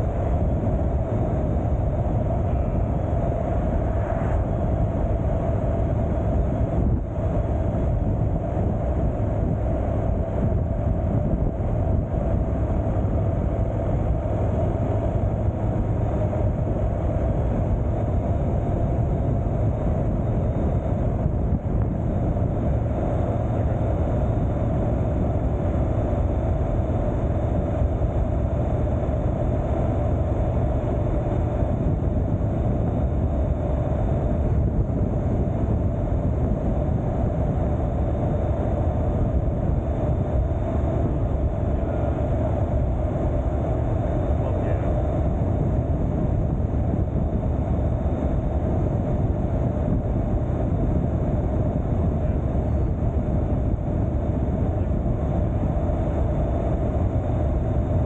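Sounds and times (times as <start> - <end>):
motorcycle engine drone: 0.0 - 58.0
wind rushing on microphone: 0.0 - 58.0.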